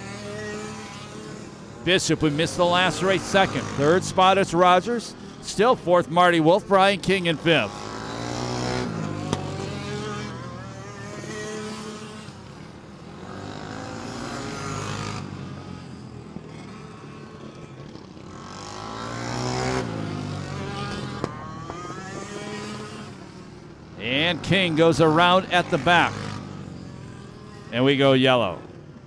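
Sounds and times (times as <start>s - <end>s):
kart engines passing: 0.0s - 29.0s.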